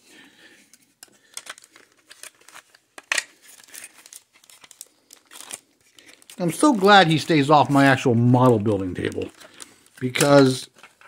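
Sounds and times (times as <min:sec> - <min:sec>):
plastic bags crinkling: 0:01.2 - 0:11.0.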